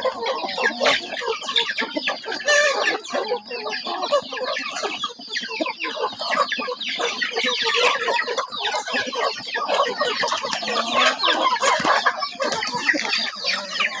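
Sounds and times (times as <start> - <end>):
young chickens clucking and chirping: 0.0 - 14.0.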